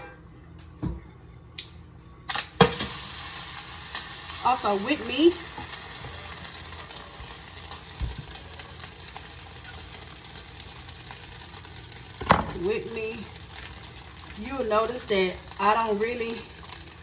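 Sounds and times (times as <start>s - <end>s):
meat sizzling in a pot: 2.3s - 17.0s.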